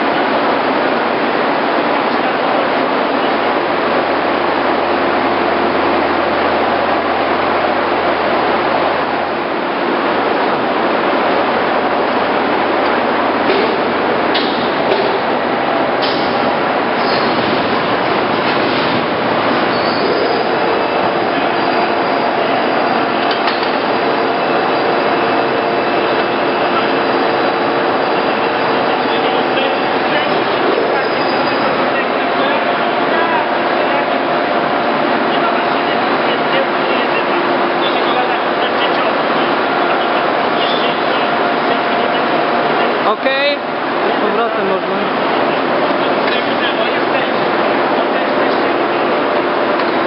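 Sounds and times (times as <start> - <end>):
lathe running: 2.1 - 50.0.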